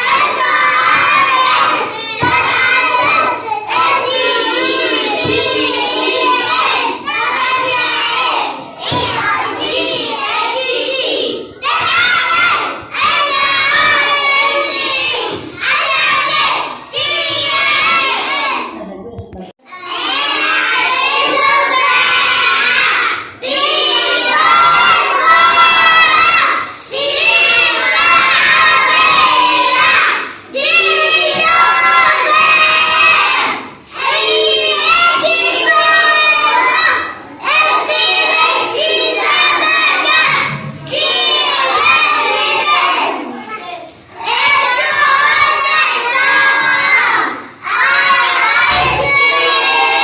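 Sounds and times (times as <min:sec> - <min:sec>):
children chanting in unison: 0:00.0 - 0:18.8, 0:19.7 - 0:50.0.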